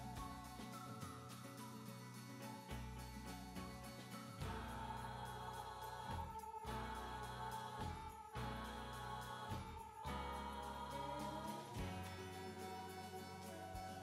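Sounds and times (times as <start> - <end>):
music of slow sustained chords: 0.0 - 14.0.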